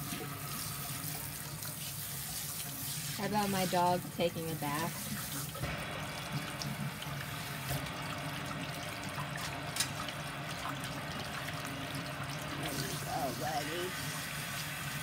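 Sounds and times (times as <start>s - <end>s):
water running into sink: 0.0s - 15.0s.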